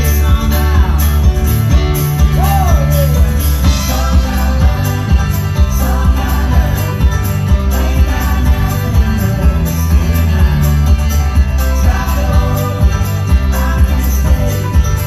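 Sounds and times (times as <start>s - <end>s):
acoustic guitar: 0.0s - 15.0s
bass: 0.0s - 15.0s
drum beat: 0.0s - 15.0s
keyboard: 0.0s - 15.0s
person singing: 0.0s - 15.0s.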